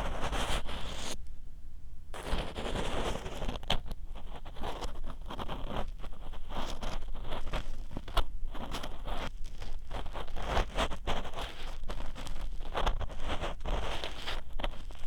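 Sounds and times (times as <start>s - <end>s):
ear pick scraping microphone: 0.0s - 1.2s, 2.2s - 15.0s.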